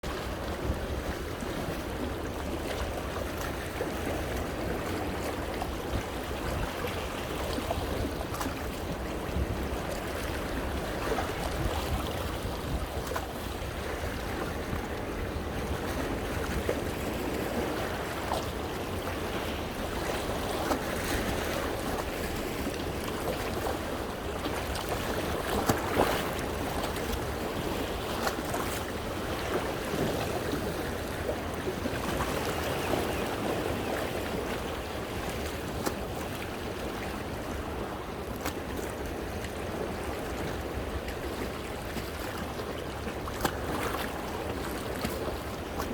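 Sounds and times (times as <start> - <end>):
sea waves washing over rocks: 0.0 - 45.9.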